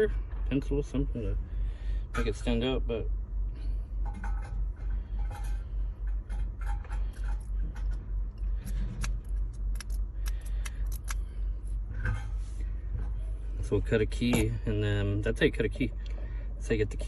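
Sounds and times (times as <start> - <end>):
pulsing low rumble: 0.0 - 17.0.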